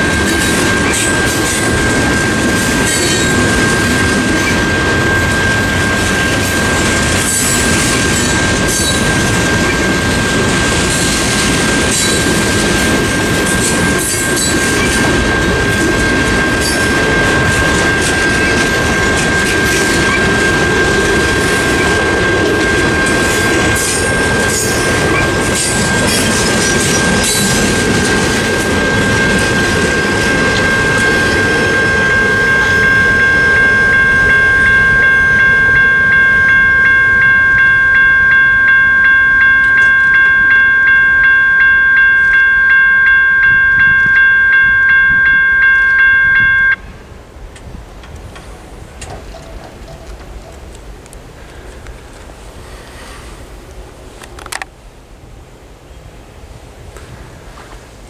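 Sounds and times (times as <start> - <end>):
freight train wheels clacking: 0.0 - 46.8, 47.6 - 52.4
crossing bell ringing: 0.0 - 47.0.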